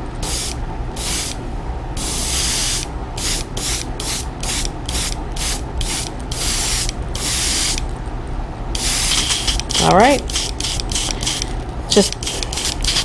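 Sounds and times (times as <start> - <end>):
airbrush hissing in bursts: 0.2 - 1.4, 2.0 - 7.8, 8.8 - 13.0.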